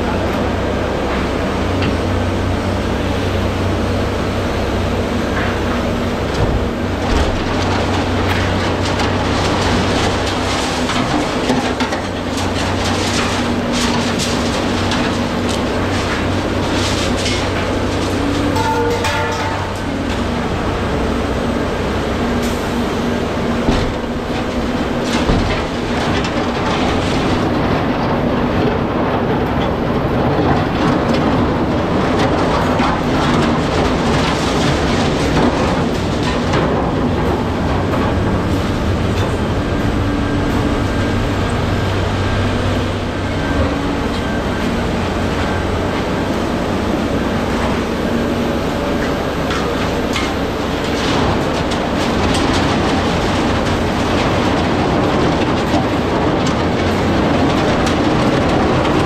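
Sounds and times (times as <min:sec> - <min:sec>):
diesel engine and hydraulics running: 0:00.0 - 0:59.0
scrap metal clanking and rattling: 0:05.3 - 0:59.0.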